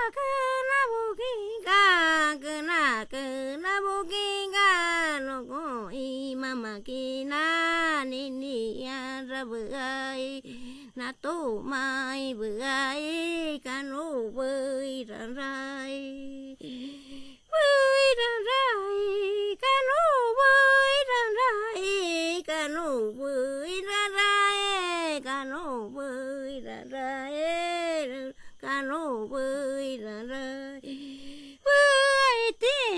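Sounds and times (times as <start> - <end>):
woman singing unaccompanied: 0.0 - 32.9.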